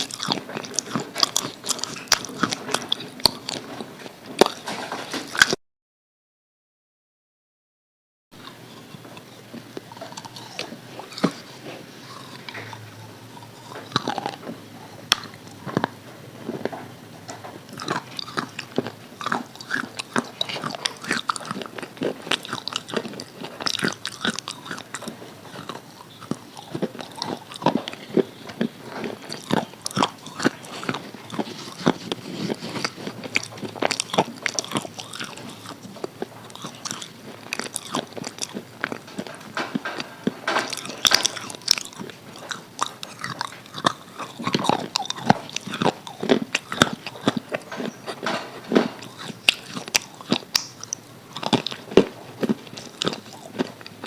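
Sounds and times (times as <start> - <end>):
fried chicken crunching: 0.0 - 5.6, 8.4 - 54.0.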